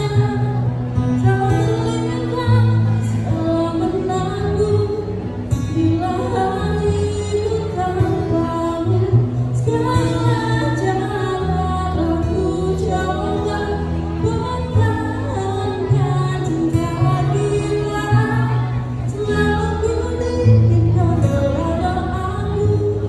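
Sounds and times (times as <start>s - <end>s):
acoustic guitar: 0.0s - 23.0s
woman singing into a microphone: 0.0s - 23.0s.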